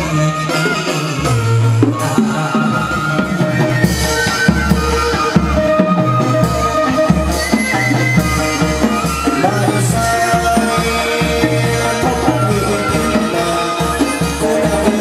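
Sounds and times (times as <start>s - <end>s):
drums steady beat: 0.0s - 15.0s
ritual instrumental ensemble: 0.0s - 15.0s.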